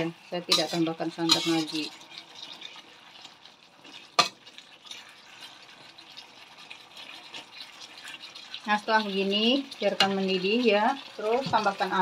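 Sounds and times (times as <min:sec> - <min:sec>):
meat sizzling in pan: 0:00.0 - 0:12.0
spatula scraping metal pan: 0:00.0 - 0:12.0.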